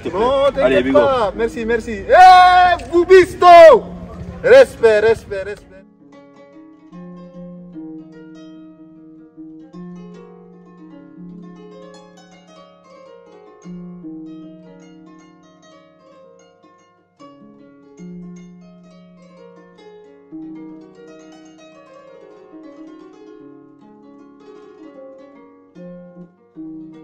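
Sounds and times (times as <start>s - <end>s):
plucked-string melody: 0.0s - 27.0s.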